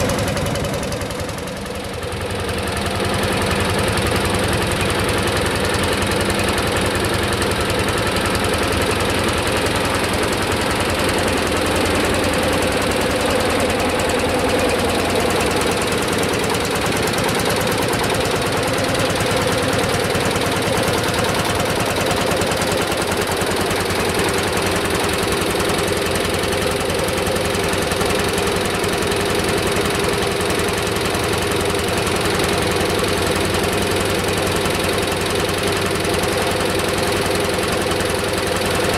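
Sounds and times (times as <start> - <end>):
tractor engine knocking: 0.0 - 38.9.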